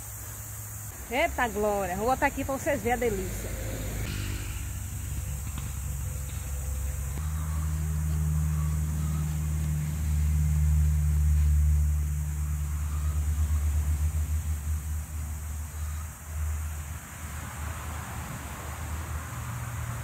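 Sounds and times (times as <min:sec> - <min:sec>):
low engine hum: 0:00.6 - 0:20.0.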